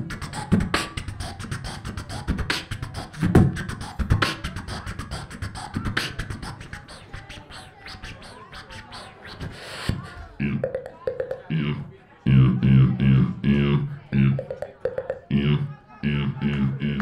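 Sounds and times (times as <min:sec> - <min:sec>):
person beatboxing: 0:00.0 - 0:17.0.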